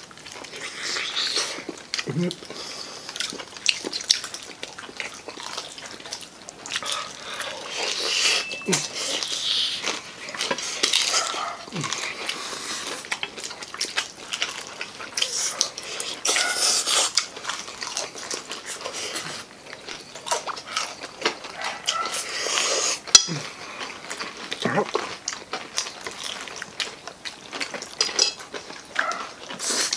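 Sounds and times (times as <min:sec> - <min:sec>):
people chewing crispy food: 0:00.0 - 0:29.9.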